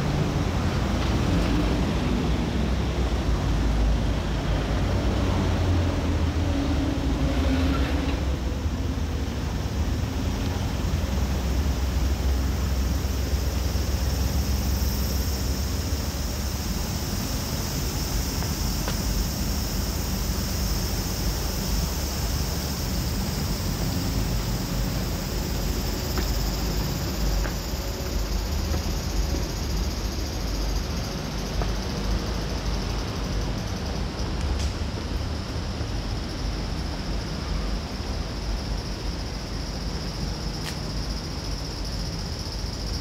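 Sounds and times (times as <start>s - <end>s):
high hiss: 8.2s - 43.0s.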